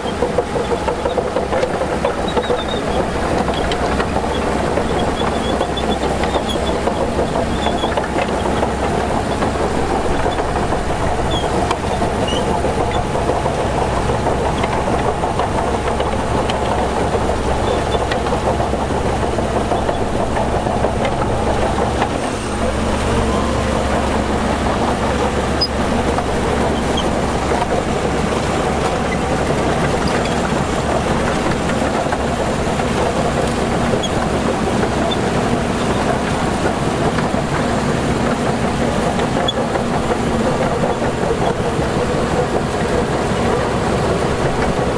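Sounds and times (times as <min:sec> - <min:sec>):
diesel engine deep rumble: 0:00.0 - 0:44.9.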